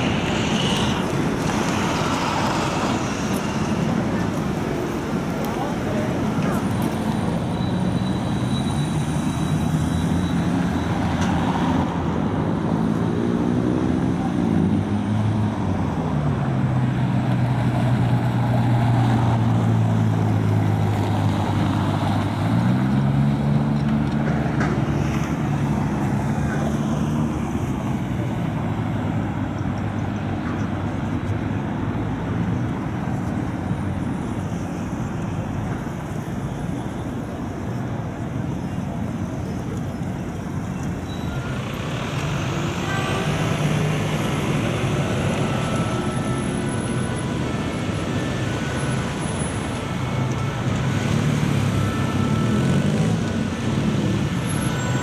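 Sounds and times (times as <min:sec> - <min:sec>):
street traffic: 0:00.0 - 0:55.0.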